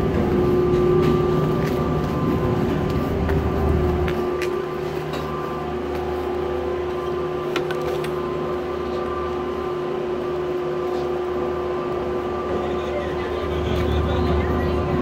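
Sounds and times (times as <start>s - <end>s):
gondola machinery hum: 0.0s - 15.0s.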